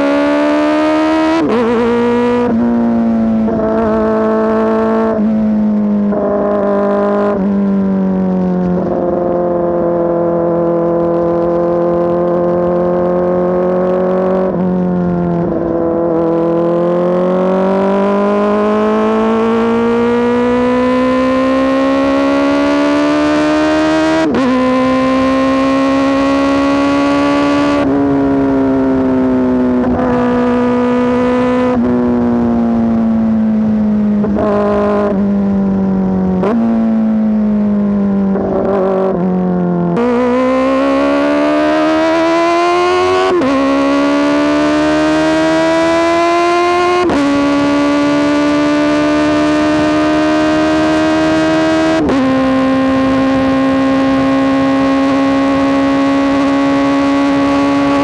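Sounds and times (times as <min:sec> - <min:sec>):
loud motorcycle engine revving: 0:00.0 - 0:58.0.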